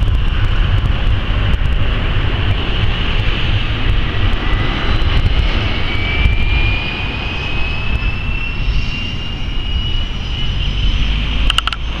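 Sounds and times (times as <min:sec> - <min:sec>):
distant jet climbing: 0:00.0 - 0:12.0.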